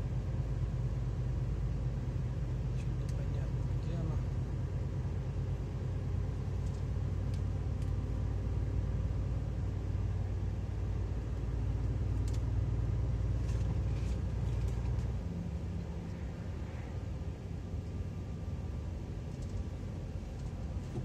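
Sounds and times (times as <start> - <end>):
lorry diesel engine rumble: 0.0 - 21.0
road noise: 0.0 - 21.0.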